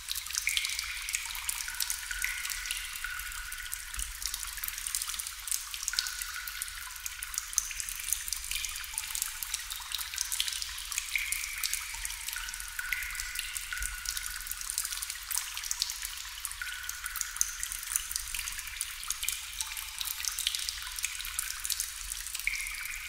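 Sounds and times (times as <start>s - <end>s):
water drops dripping into water: 0.0s - 23.0s.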